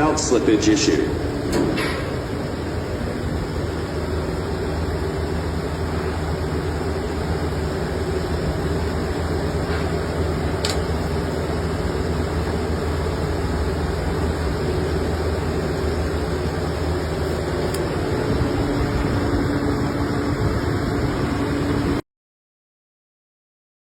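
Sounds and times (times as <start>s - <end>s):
drilling machine mechanical drone: 0.0s - 22.0s.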